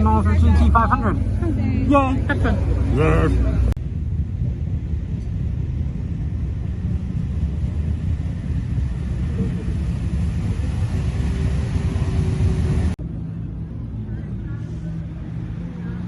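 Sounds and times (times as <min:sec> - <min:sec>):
deep car engine running: 0:00.0 - 0:16.0.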